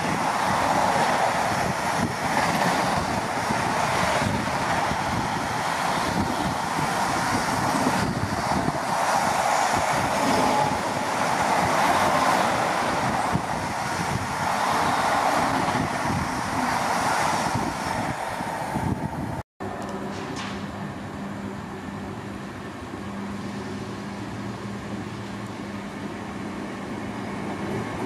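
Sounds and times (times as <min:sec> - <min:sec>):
freight train wheels on rail: 0:00.0 - 0:28.0.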